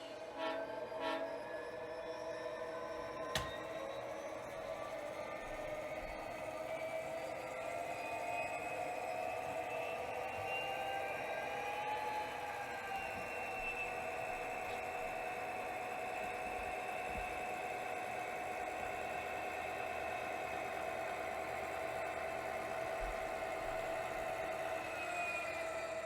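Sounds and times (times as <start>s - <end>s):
model locomotive engine sound: 0.0s - 26.0s.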